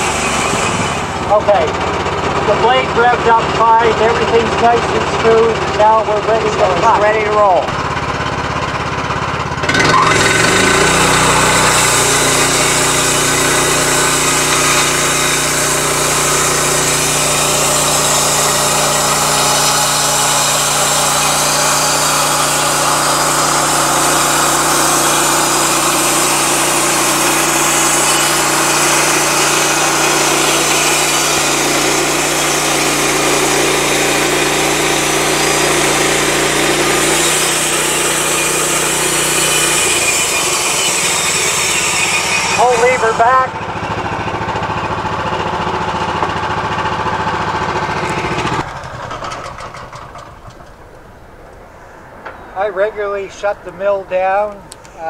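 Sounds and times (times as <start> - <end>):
gasoline engine drone: 0.0 - 55.0.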